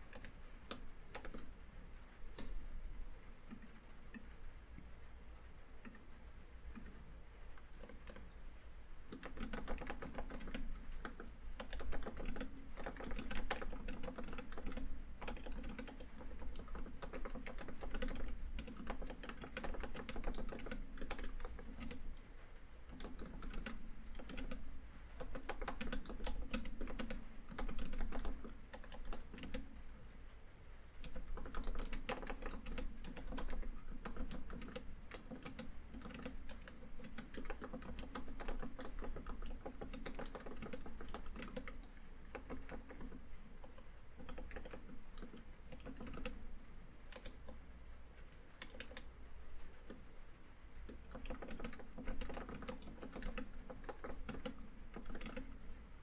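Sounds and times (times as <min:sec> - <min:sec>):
laptop keyboard typing: 0:00.0 - 0:01.7, 0:07.5 - 0:22.2, 0:22.8 - 0:30.1, 0:30.9 - 0:47.7, 0:48.3 - 0:50.1, 0:50.8 - 0:55.8.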